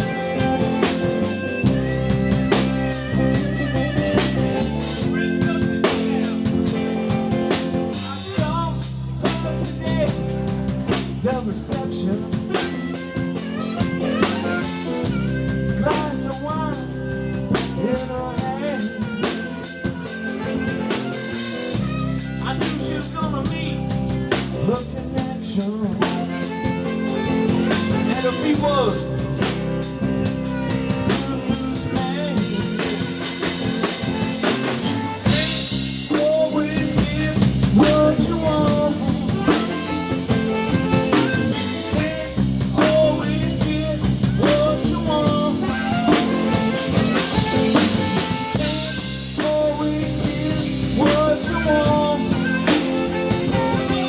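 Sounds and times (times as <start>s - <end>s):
bass: 0.0s - 54.0s
drum kit beat: 0.0s - 54.0s
lead guitar bending lines: 0.0s - 54.0s.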